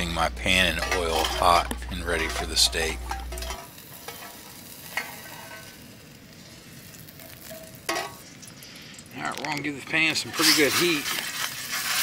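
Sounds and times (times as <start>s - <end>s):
oil sizzling in a pan: 0.0s - 9.1s, 10.2s - 12.0s.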